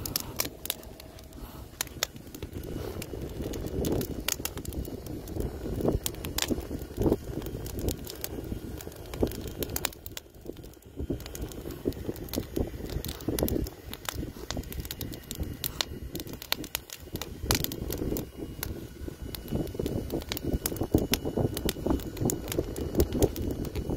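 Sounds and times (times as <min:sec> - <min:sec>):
low uneven rumble: 0:00.0 - 0:23.9
wood fire crackling: 0:00.0 - 0:23.9.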